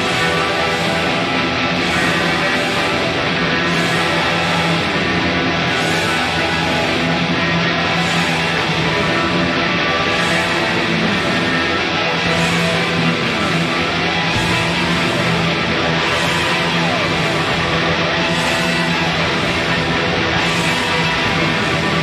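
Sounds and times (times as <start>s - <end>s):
rock music with electric guitar: 0.0s - 22.0s.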